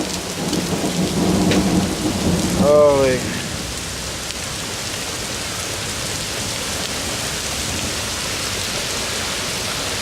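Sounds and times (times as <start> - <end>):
hail and heavy rain: 0.0 - 10.0.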